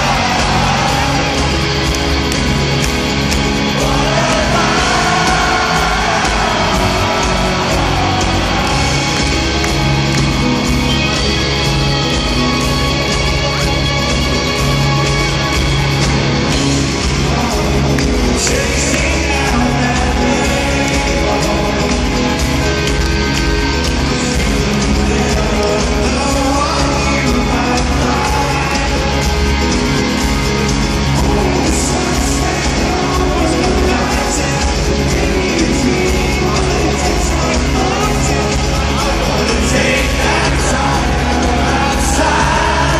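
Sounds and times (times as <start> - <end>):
lead vocal singing: 0.0 - 12.8, 15.5 - 42.9
rock band playing live: 0.0 - 42.9.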